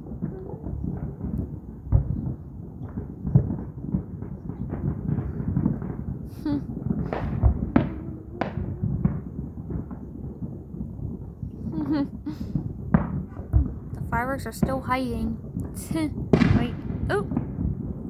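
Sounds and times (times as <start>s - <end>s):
fireworks bangs and pops: 0.0s - 18.0s.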